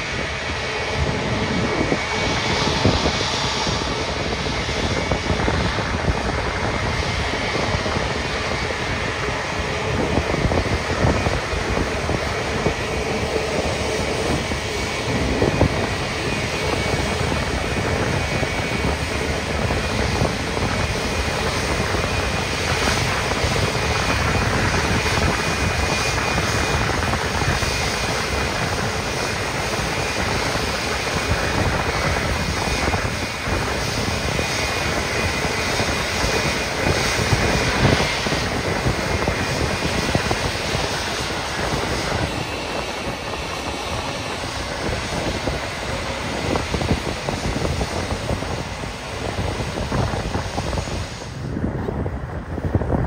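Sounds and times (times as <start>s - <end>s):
jet airliner engine rushing: 0.0s - 53.0s.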